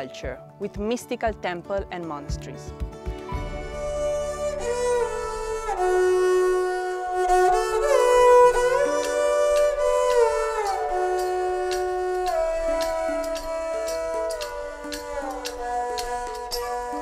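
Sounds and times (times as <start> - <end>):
slow sliding melody: 3.2 - 17.0.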